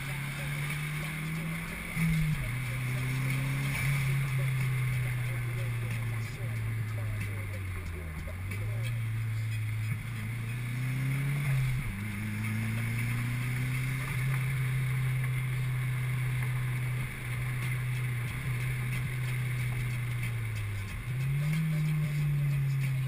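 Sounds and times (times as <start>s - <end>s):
car engine revving and shifting: 0.0s - 23.0s
road noise: 0.0s - 23.0s.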